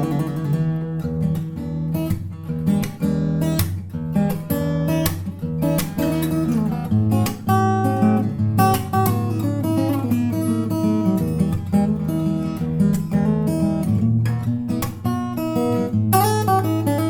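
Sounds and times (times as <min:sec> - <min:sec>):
guitar strumming: 0:00.0 - 0:17.0.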